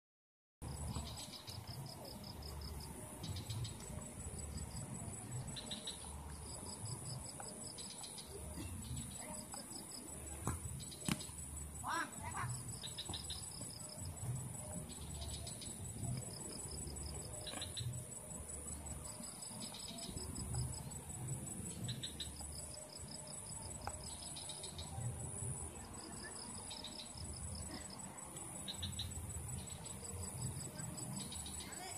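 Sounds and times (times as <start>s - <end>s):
insects chirping: 0.6s - 31.9s
steady high-pitched whine: 0.6s - 31.9s.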